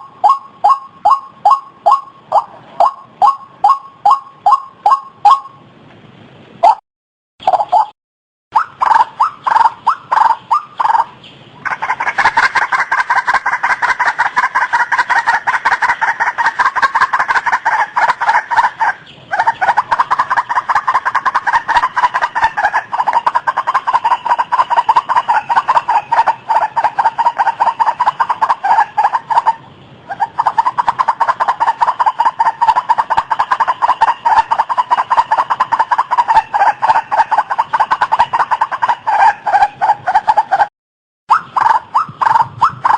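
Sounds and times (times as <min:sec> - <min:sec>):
waterhen calling harsh notes: 0:00.0 - 0:05.7, 0:08.5 - 0:40.7, 0:41.3 - 0:42.9.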